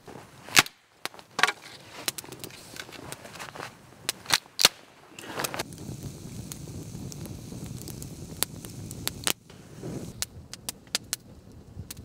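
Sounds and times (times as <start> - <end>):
burning wood popping: 0.0 - 12.0
campfire crackling: 0.0 - 12.0.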